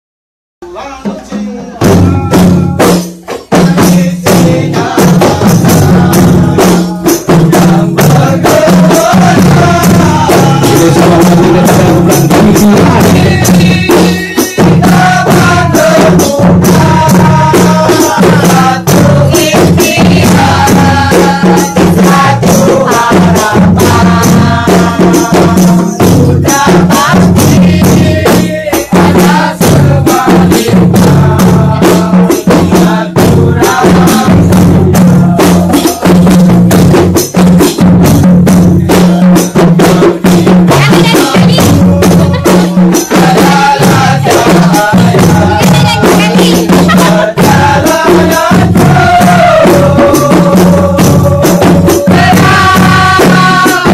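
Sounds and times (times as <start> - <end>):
hand-beaten frame drums: 0.6 - 53.9
voices singing: 0.6 - 53.9.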